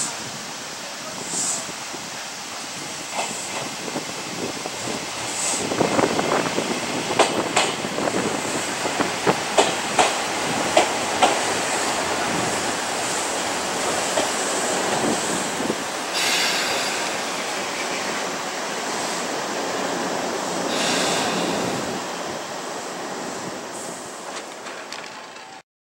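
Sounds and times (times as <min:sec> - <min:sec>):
train air hisses: 0:00.0 - 0:24.3
electric train running slowly: 0:00.0 - 0:25.6.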